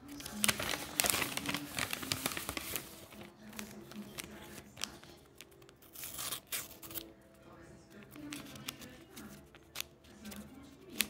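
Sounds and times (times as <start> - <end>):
paper packet crinkling: 0.0 - 7.1, 8.0 - 11.0.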